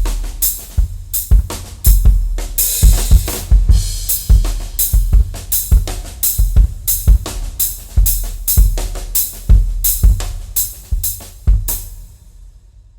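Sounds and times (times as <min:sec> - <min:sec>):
acoustic drum kit groove: 0:00.0 - 0:12.2.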